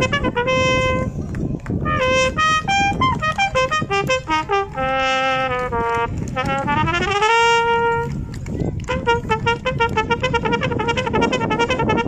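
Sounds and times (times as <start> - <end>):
solo trumpet melody: 0.0 - 12.0.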